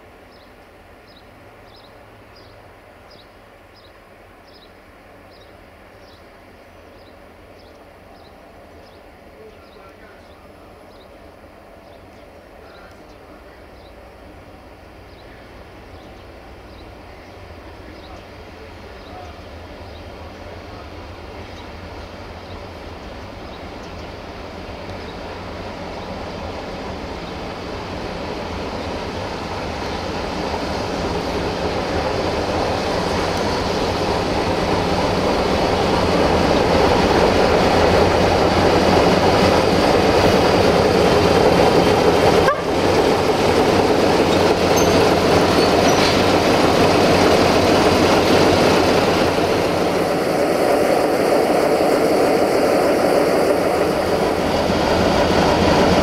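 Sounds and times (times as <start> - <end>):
diesel locomotive engine passing: 0.0 - 56.0.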